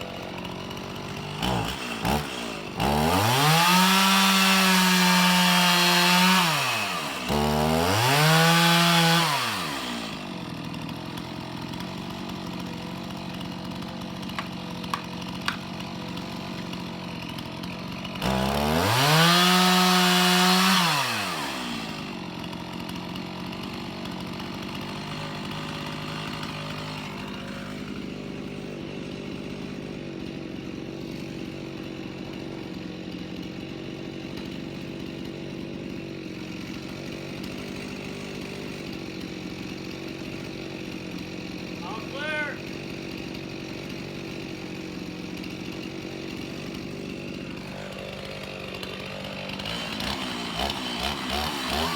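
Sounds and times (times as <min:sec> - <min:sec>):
two-stroke chainsaw revving and idling: 0:00.0 - 0:51.9.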